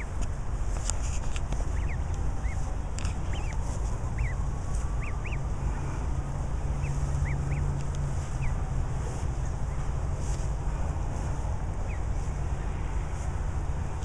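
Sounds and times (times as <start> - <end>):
goslings peeping: 0.0 - 14.0
low rumble: 0.0 - 14.0.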